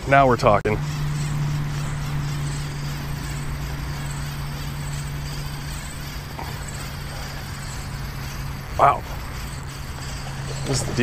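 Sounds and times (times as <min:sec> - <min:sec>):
fishing reel whirring: 0:00.1 - 0:11.0.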